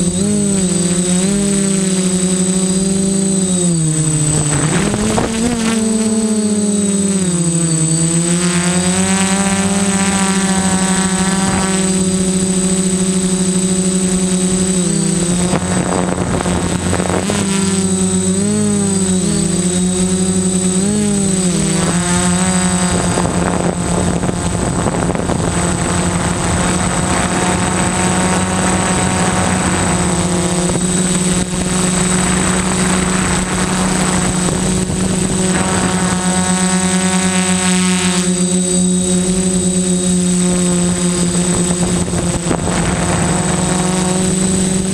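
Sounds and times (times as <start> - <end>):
drone motors whining: 0.0 - 44.9.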